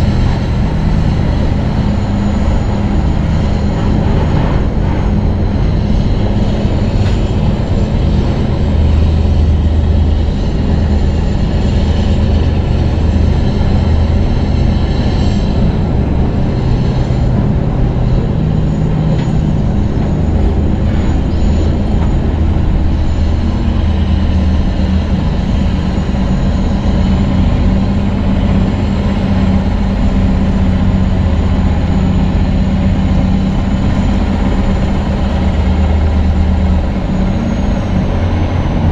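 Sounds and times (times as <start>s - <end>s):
road and wind noise: 0.0s - 38.9s
truck diesel engine running: 0.0s - 38.9s.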